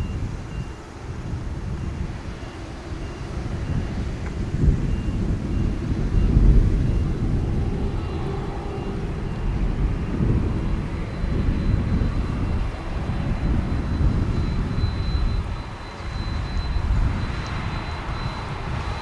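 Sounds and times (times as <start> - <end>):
faint high engine whine: 0.0 - 19.0
jet engines rumbling: 0.0 - 19.0.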